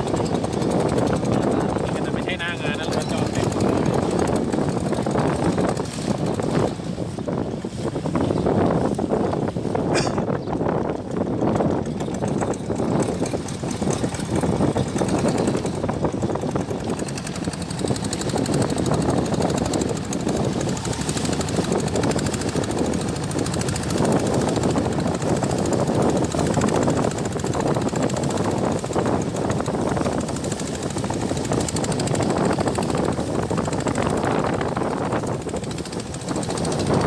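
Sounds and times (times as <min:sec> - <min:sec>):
motorboat engine knocking: 0:00.0 - 0:37.0.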